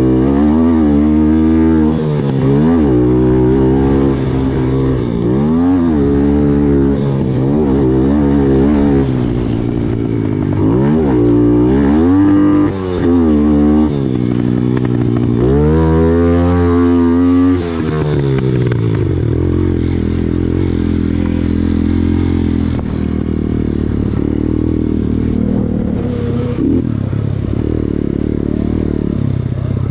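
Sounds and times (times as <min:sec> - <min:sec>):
pit bike engine revving: 0:00.0 - 0:29.9.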